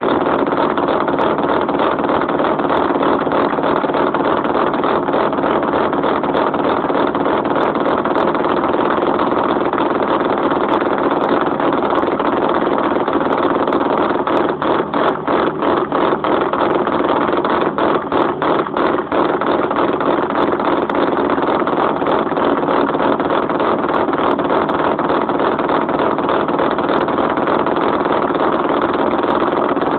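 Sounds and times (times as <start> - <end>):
rotary engine exhaust: 0.0 - 29.9.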